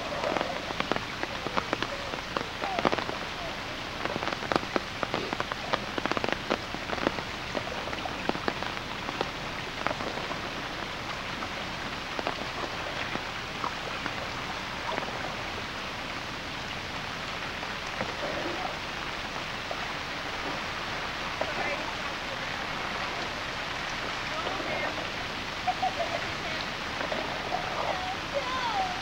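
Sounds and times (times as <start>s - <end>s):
rain on a flooded street: 0.0s - 29.0s
sharp raindrop ticks: 0.0s - 29.0s.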